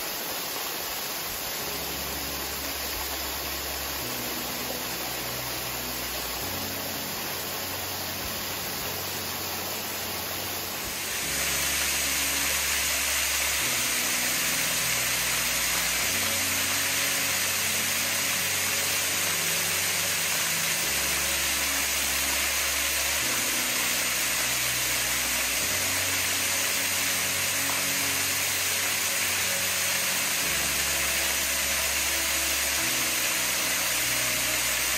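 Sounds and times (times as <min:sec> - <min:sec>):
slow sustained background music: 0:00.0 - 0:34.9
waterfall splashing onto rocks: 0:00.0 - 0:34.9.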